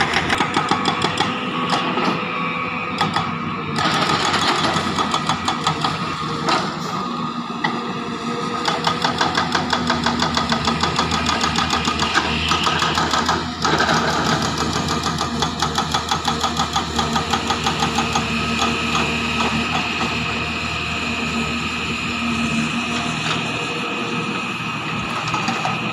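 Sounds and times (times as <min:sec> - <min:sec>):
excavator diesel engine pulsing: 0:00.0 - 0:25.9.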